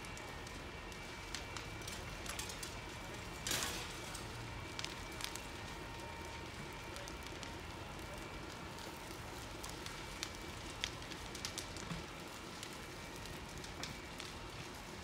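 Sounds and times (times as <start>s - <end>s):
fire burning: 0.0s - 15.0s
fire popping and crackling: 0.0s - 15.0s.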